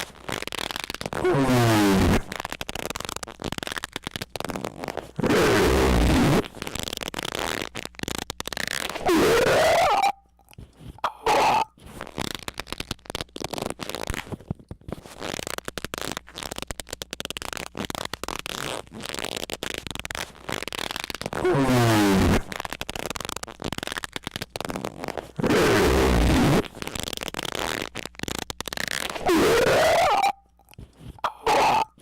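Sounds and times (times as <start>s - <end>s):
crackling clicks: 0.0s - 32.0s.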